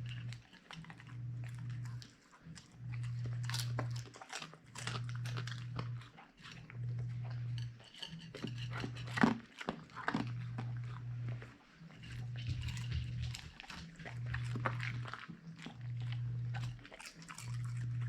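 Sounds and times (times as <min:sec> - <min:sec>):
dog crunching and chewing: 0:00.0 - 0:18.0.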